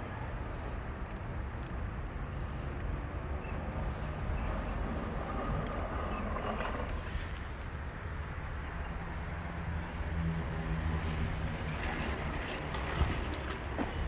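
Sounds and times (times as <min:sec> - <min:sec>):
engine rumble: 0:00.2 - 0:14.0.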